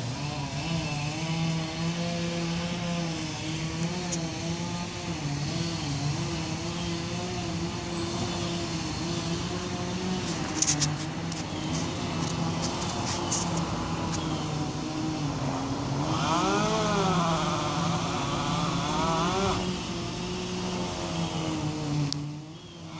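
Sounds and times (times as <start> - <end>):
engine running and revving: 0.0 - 22.9.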